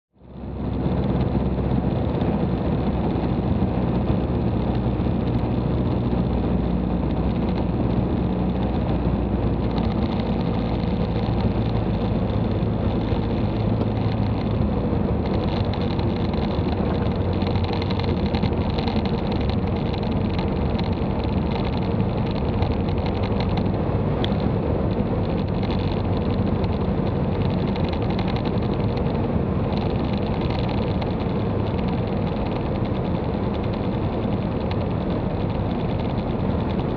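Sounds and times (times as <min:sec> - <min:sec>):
airplane engine and propeller: 0:00.4 - 0:36.9.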